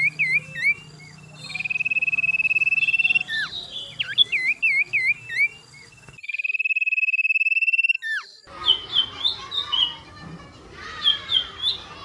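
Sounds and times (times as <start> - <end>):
swooping whistled bird notes: 0.0 - 9.9
bird chirps: 0.0 - 10.1, 10.8 - 12.0
high bird trill: 0.0 - 10.2, 10.8 - 12.0.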